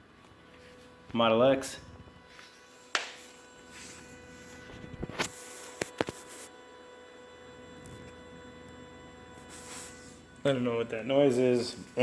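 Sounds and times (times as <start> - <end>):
steady electrical buzz: 0.0 - 12.0.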